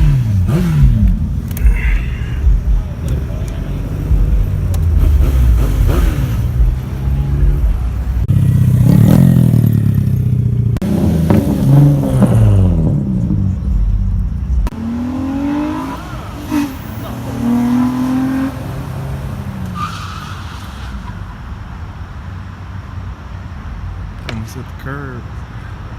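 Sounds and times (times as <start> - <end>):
vehicle engines revving: 0.0 - 25.9.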